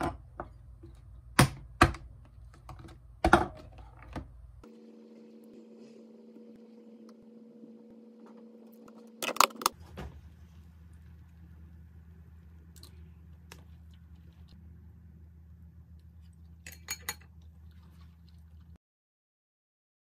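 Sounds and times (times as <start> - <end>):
faint steady hum: 0.0 - 18.8.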